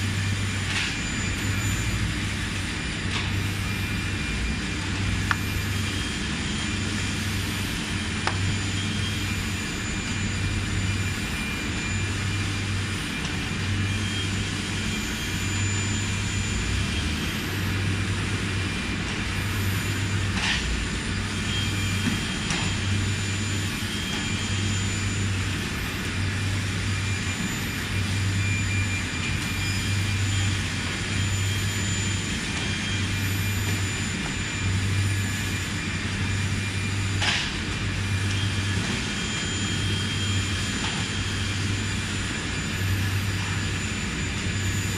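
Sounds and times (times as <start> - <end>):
industrial machinery hum: 0.0 - 44.9.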